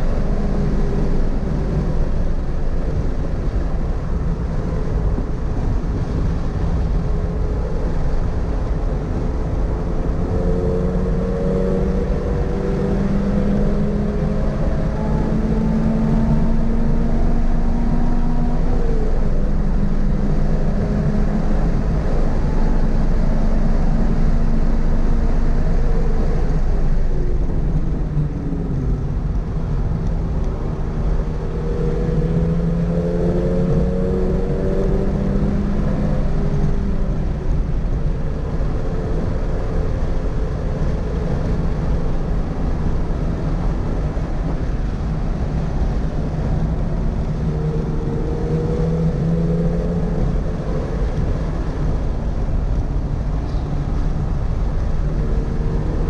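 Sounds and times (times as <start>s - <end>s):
car engine pulling hard: 0.0s - 56.0s
road and wind noise: 0.0s - 56.0s.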